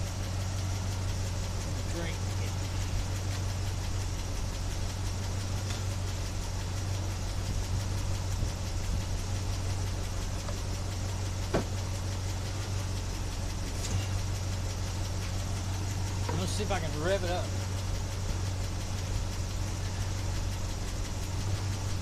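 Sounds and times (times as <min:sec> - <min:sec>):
car engine idling rough: 0:00.0 - 0:22.0.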